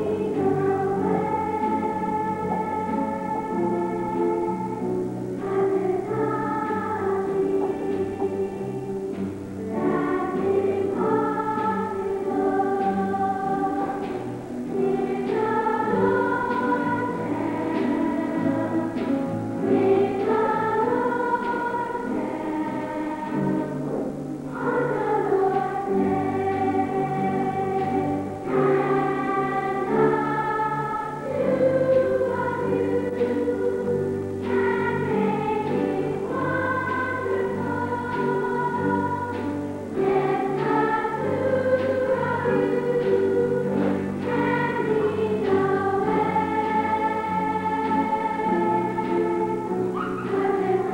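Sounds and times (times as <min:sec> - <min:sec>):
choir singing held notes: 0:00.0 - 0:50.9.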